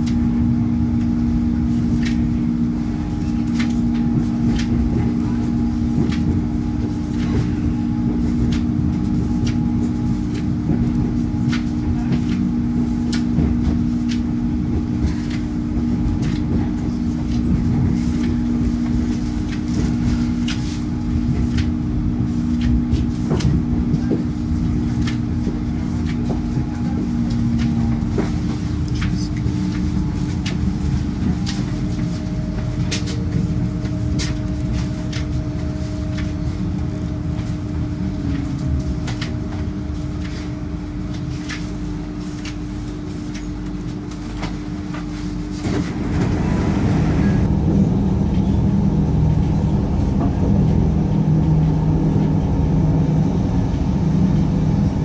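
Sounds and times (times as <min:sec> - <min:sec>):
traction equipment hum: 0:00.0 - 0:55.0
train wheels rumbling on rails: 0:00.0 - 0:55.0.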